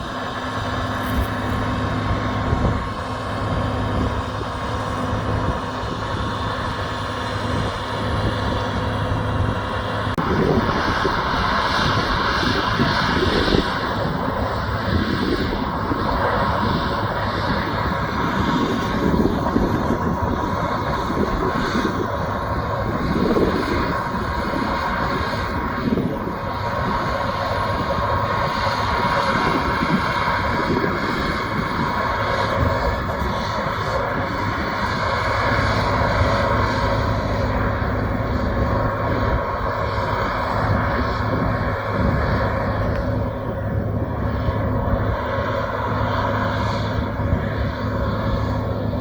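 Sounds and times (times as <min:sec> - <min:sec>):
combine harvester drone: 0:00.0 - 0:49.0.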